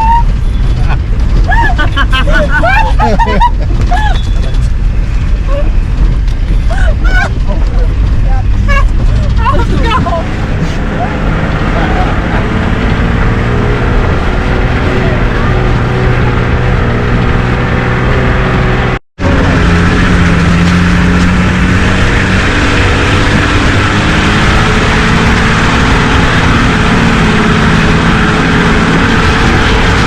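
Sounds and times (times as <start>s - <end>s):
heavy wind: 0.0s - 30.0s
road noise: 0.0s - 30.0s
vehicle engine running: 0.0s - 30.0s.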